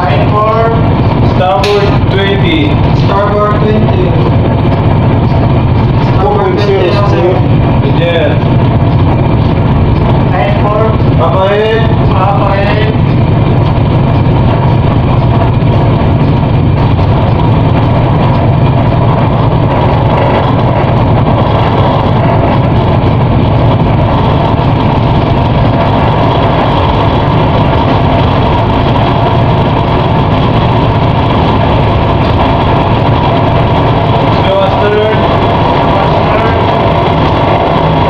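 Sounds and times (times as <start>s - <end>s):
ship engine rumbling: 0.0s - 38.0s.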